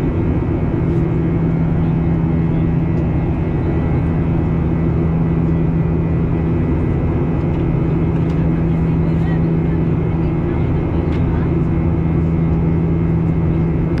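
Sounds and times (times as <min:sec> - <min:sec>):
constant low hum: 0:00.0 - 0:14.0
jet engine and airflow drone: 0:00.0 - 0:14.0.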